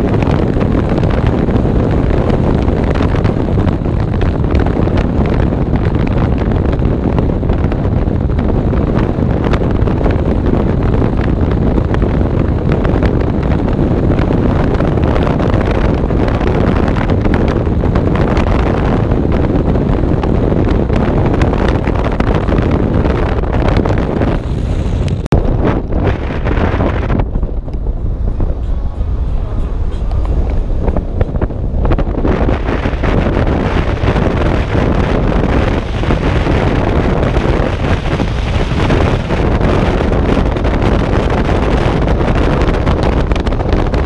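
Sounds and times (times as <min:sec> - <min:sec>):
car road and engine rumble: 0:00.0 - 0:44.0
wind noise on microphone: 0:00.0 - 0:44.0.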